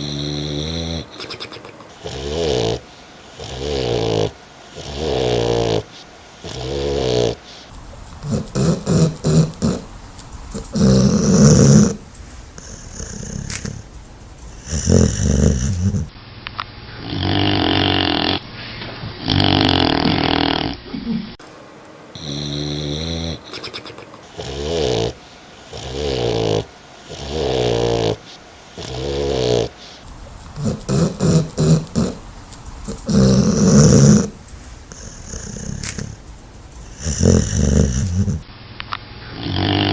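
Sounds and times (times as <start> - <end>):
dogs snoring: 0.0 - 16.2, 16.9 - 18.4, 19.1 - 21.4, 22.1 - 38.5, 39.2 - 39.9.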